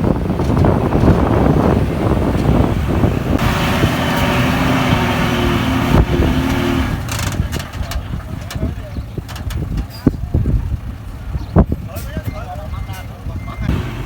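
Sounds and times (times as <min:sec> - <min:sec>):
heavy diesel machinery rumbling: 0:00.0 - 0:14.0.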